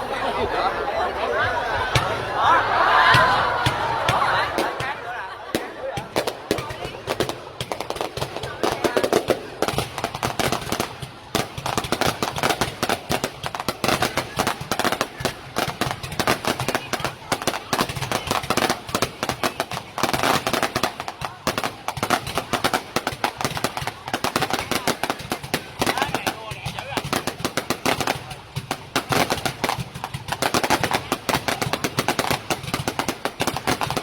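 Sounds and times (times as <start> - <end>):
fireworks crackling: 3.1 - 34.0.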